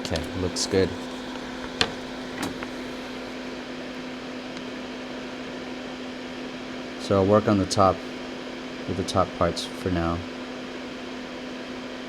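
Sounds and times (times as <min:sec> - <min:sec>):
fan machine humming: 0:00.0 - 0:12.0.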